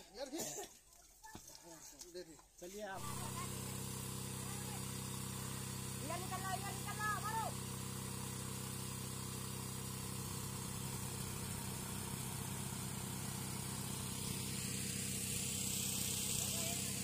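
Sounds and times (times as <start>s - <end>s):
engine humming: 3.0s - 17.0s.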